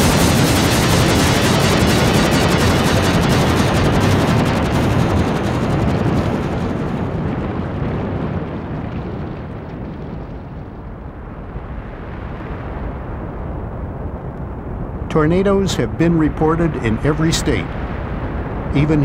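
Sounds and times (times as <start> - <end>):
deep rumbling roar: 0.0 - 19.0.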